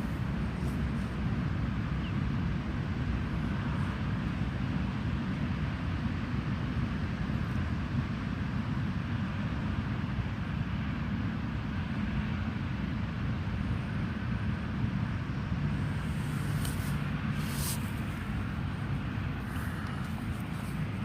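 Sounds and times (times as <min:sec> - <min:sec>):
low rumble and hiss: 0:00.0 - 0:21.0.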